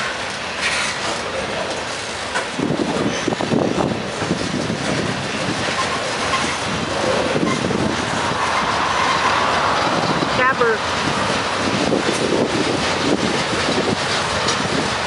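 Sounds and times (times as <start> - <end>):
train wheels clacking on rails: 0.0 - 15.0.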